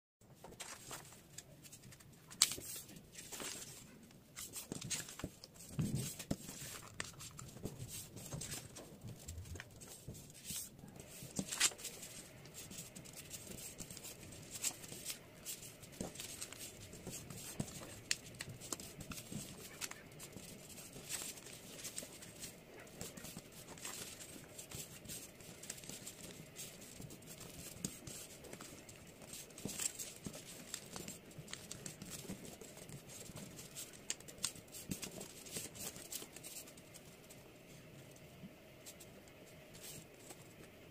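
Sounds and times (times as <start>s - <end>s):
paper rustling and crinkling: 0.4s - 37.4s, 39.7s - 40.8s.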